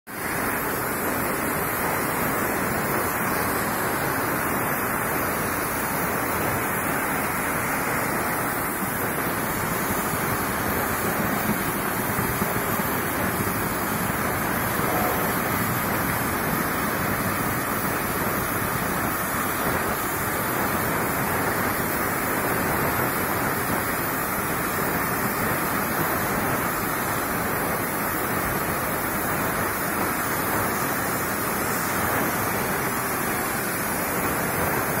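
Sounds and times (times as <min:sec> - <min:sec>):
cutting torch jet rushing: 0:00.1 - 0:35.0.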